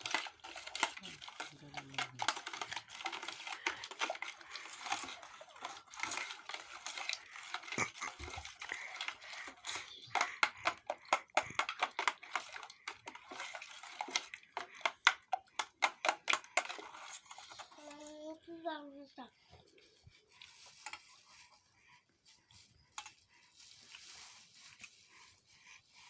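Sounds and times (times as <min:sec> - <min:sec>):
crinkling and clicking handling noise: 0:00.0 - 0:26.0.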